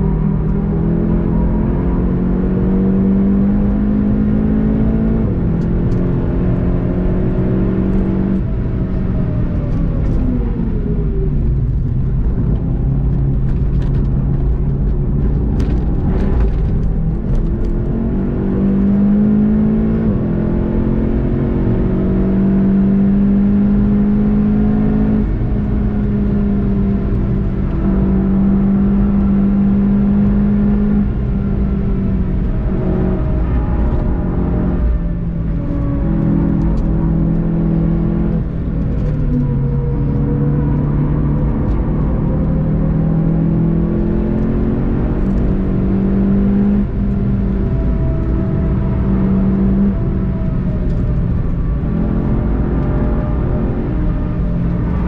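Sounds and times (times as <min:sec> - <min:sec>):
car engine accelerating: 0:00.0 - 0:55.0
road noise: 0:00.0 - 0:55.0.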